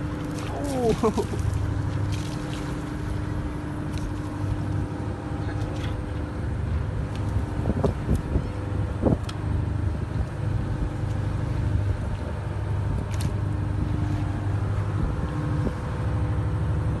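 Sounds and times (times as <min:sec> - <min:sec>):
boat engine drone: 0:00.0 - 0:17.0.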